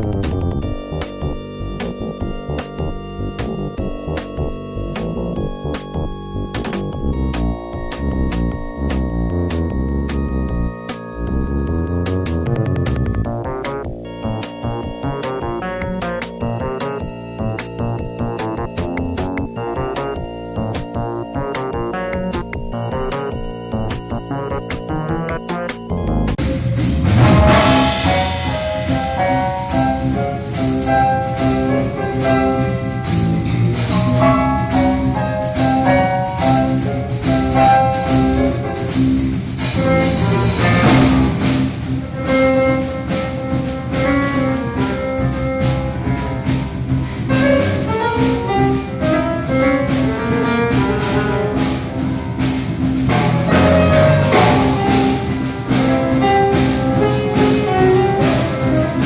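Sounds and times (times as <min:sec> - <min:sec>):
instrumental background music: 0:00.0 - 0:59.0.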